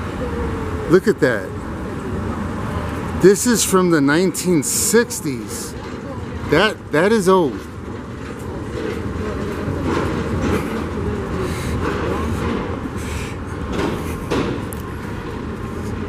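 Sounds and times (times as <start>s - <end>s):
street noise: 0.0s - 16.0s
streetcar rumbling: 0.0s - 16.0s.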